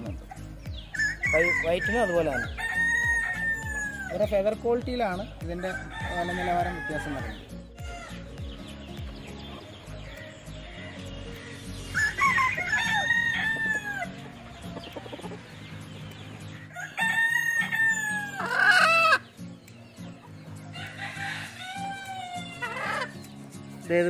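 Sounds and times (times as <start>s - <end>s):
roosters crowing: 0.0s - 19.4s, 20.5s - 23.3s.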